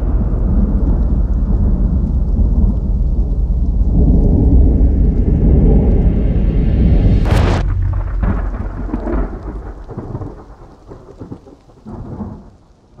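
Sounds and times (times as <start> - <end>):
thunder rumble and crack: 0.0 - 13.0.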